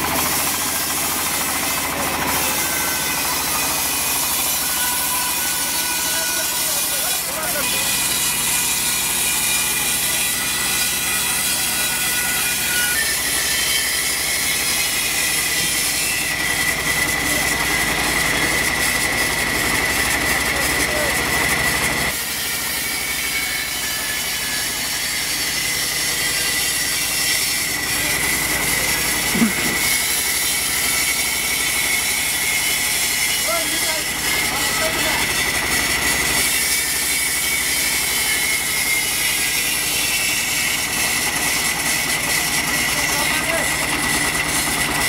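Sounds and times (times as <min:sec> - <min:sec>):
band saw cutting log: 0:00.0 - 0:45.0.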